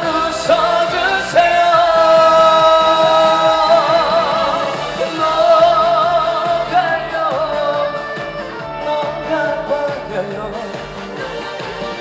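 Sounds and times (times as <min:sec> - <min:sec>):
band rhythmic backing: 0:00.0 - 0:12.0.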